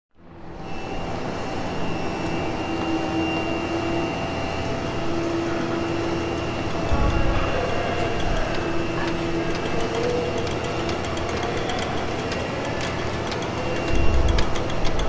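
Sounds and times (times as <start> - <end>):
assembly line machinery noise: 0.2 - 15.0
whining machine tones: 0.2 - 15.0.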